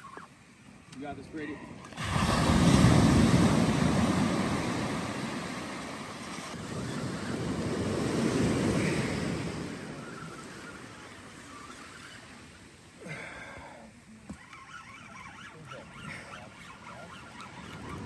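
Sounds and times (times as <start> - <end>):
small ocean waves breaking: 0.0 - 18.0.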